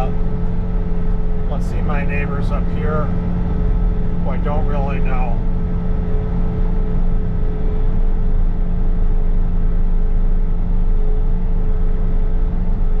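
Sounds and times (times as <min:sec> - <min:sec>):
diesel engine running: 0:00.0 - 0:13.0
steady whine: 0:00.0 - 0:13.0.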